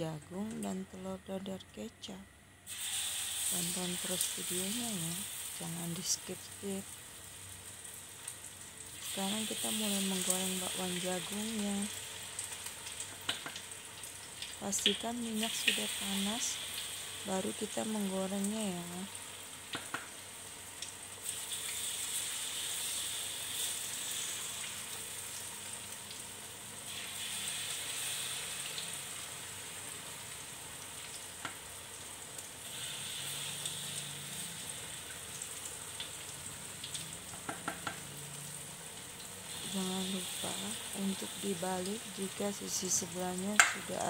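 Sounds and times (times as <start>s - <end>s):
batter sizzling in hot oil: 2.6s - 44.0s.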